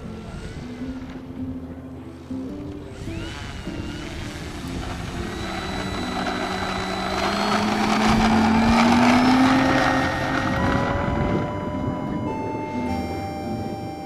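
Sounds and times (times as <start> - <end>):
model airplane motor whine: 0.0 - 14.0.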